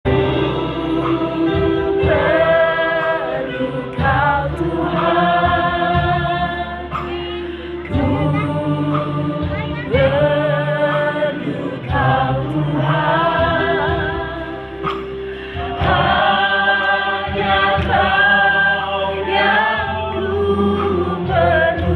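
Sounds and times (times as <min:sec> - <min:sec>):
group singing worship song: 0:00.1 - 0:21.9
instrumental accompaniment: 0:00.1 - 0:21.9.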